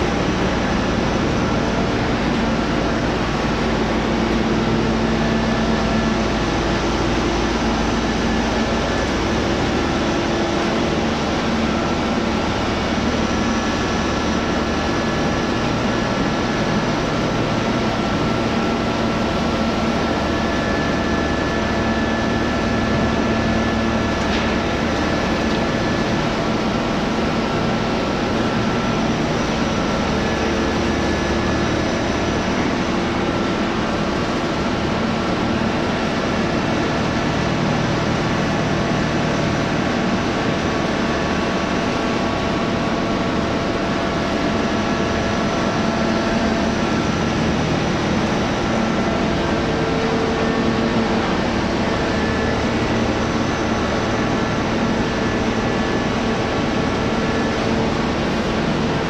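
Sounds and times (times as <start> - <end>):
machinery drone with humming tones: 0.0 - 59.0.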